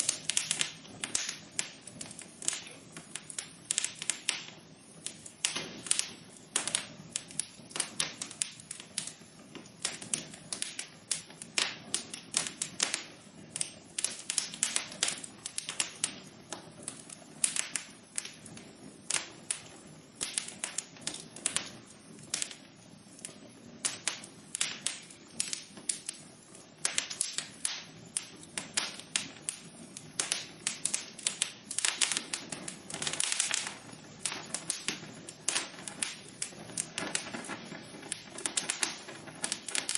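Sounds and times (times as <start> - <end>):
soft hiss of flames: 0.0 - 39.9
wood fire crackling: 0.0 - 39.9.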